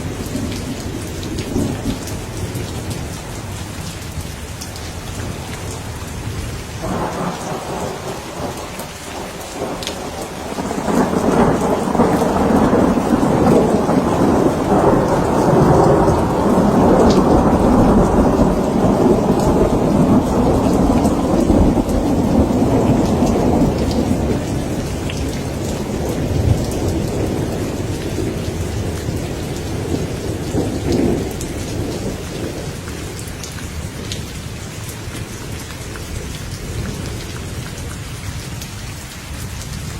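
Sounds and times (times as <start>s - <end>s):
rolling thunder rumble: 0.0s - 4.2s, 5.2s - 33.9s
heavy rain: 0.0s - 39.9s.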